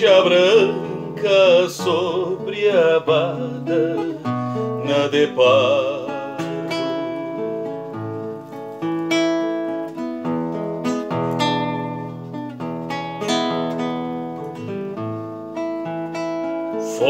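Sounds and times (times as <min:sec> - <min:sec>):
classical guitar playing: 0:00.0 - 0:17.0.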